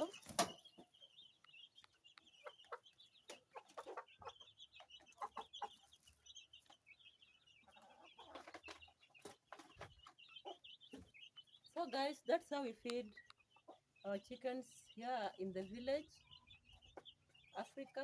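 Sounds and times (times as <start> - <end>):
chickens clucking: 0.0 - 18.0
chicks peeping: 0.0 - 18.0.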